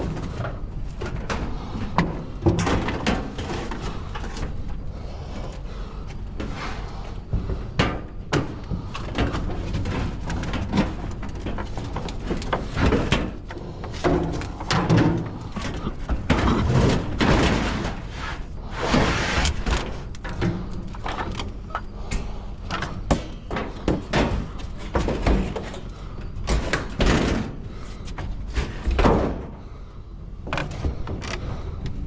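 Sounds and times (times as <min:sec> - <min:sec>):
scrap metal clanking and scraping: 0:00.0 - 0:04.8, 0:07.6 - 0:29.6.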